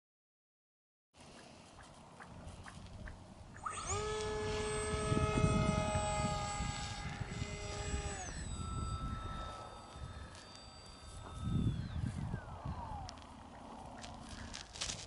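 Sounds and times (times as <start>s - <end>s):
model airplane motor whining: 2.4s - 15.0s.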